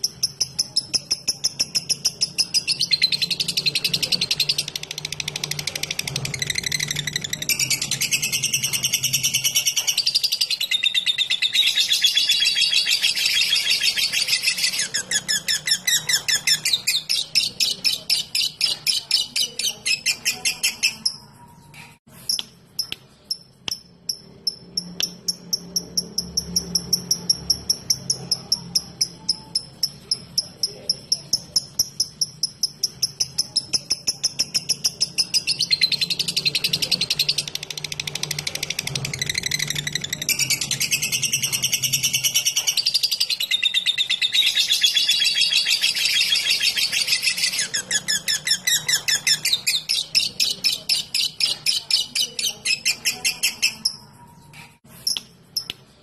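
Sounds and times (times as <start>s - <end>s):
lovebird chattering chirps: 0.0s - 56.0s.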